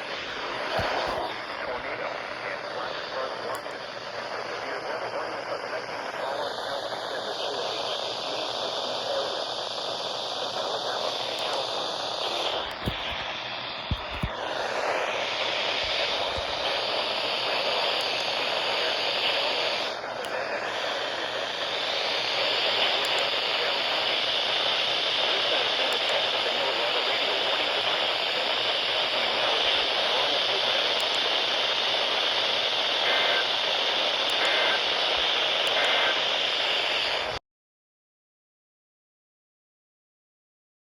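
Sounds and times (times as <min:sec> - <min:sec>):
radio static hiss: 0:00.0 - 0:37.4.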